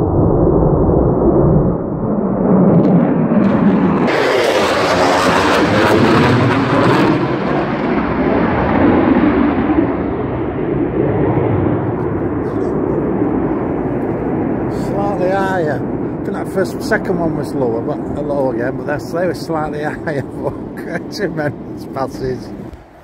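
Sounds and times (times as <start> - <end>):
jet passing overhead: 0.0 - 23.0.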